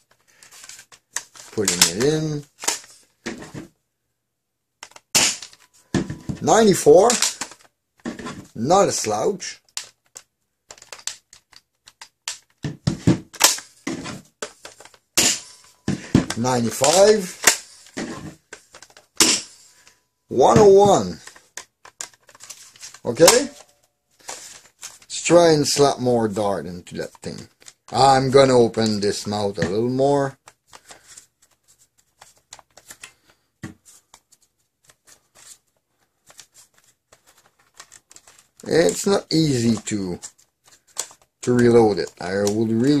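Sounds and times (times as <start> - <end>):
plastic clicks and rustles: 0.0 - 3.8, 4.8 - 26.0, 26.9 - 43.0.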